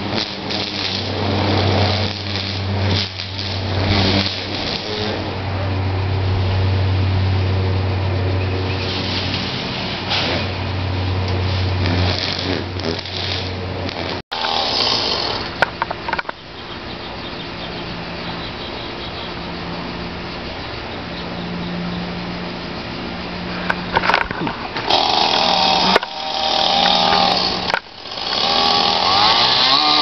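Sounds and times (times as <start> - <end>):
engine running steadily: 0.0 - 30.0
quiet engine hum: 0.0 - 30.0.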